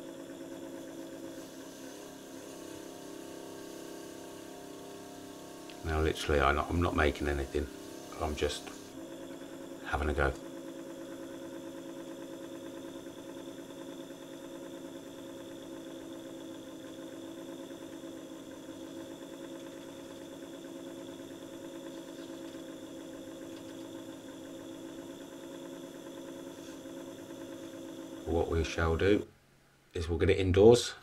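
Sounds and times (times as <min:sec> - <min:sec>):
lathe motor humming: 0:00.0 - 0:29.3.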